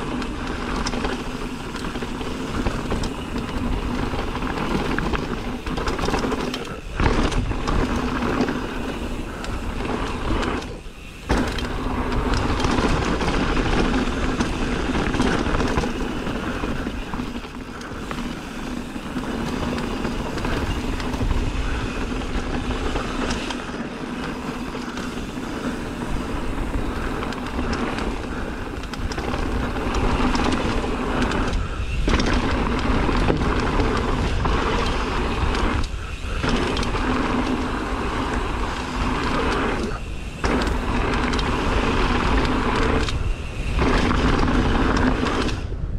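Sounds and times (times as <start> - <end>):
bike rattling over bumps: 0.0 - 45.9
bike tyres rushing on dirt: 0.0 - 45.9.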